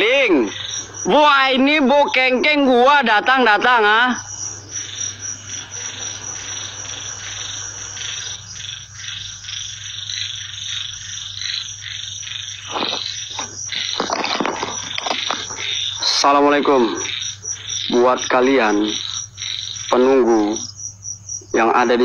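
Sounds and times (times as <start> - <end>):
frogs croaking: 0.0 - 22.0
high insect trill: 0.0 - 22.0.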